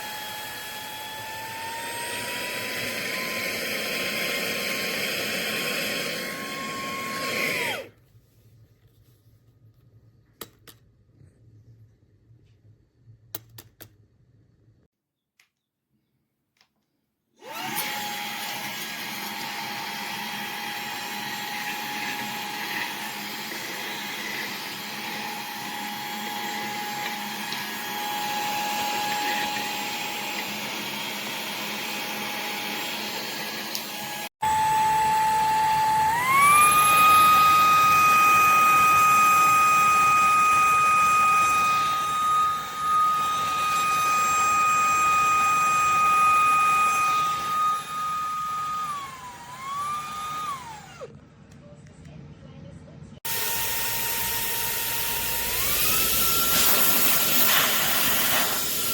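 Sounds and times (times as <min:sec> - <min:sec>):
handheld vacuum motor whining: 0:00.0 - 0:08.0, 0:17.4 - 0:51.2, 0:53.3 - 0:58.9.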